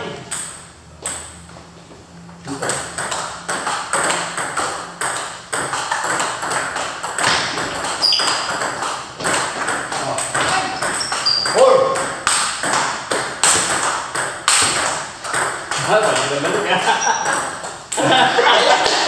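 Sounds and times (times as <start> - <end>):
table tennis balls clicking: 2.5 - 18.1.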